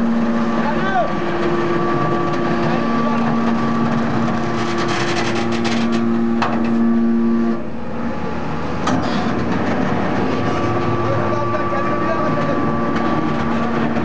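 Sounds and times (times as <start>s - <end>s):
hydraulic power unit humming: 0.0s - 14.0s.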